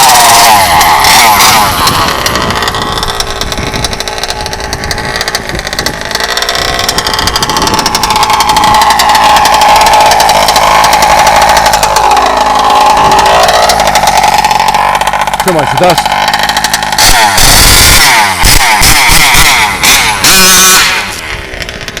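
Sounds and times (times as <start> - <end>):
two-stroke engine at high revs: 0.0 - 22.0.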